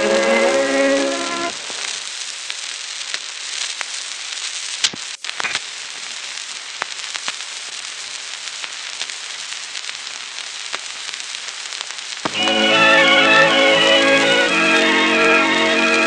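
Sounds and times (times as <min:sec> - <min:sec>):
record surface hiss and crackle: 0:00.0 - 0:16.0.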